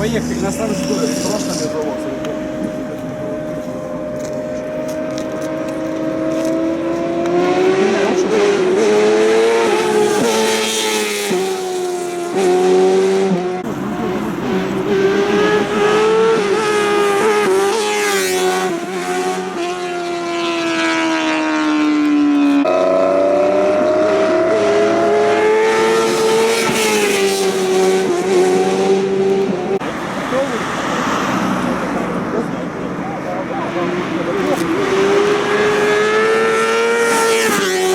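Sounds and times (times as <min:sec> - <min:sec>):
motorcycle engine at high revs: 0:00.0 - 0:30.6, 0:33.6 - 0:37.9.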